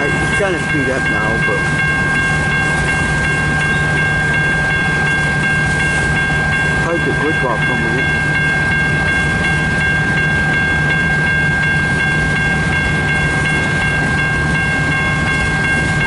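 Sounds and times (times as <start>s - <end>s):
freight train rumbling: 0.0s - 16.0s
rail clatter: 0.0s - 16.0s
railroad crossing bell ringing: 0.0s - 16.0s.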